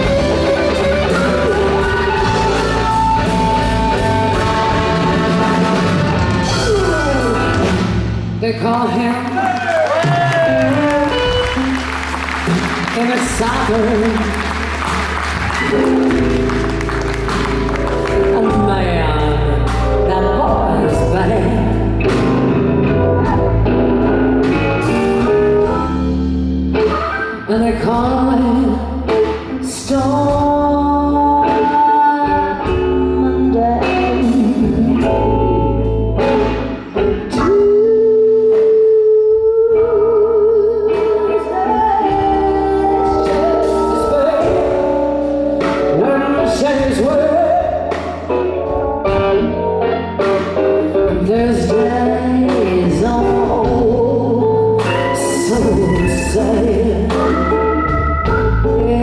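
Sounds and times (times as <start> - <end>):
woman singing: 0.0 - 16.7, 18.0 - 22.3, 27.0 - 48.2, 50.8 - 59.0
bass: 0.0 - 59.0
electric guitar: 0.0 - 59.0.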